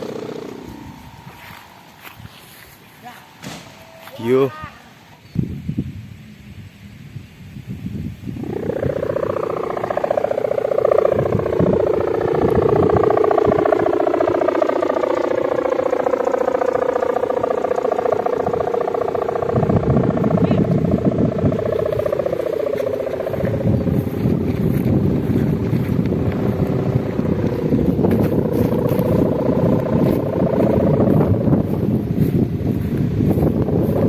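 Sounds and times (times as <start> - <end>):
kite hummer droning: 0.0 - 34.0
wind buffeting microphone: 0.0 - 34.0.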